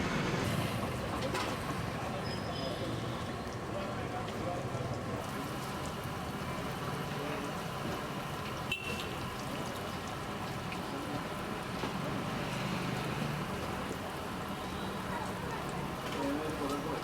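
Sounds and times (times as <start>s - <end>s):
street stall background noise: 0.0s - 17.0s
food deep-frying in hot oil: 0.1s - 17.0s.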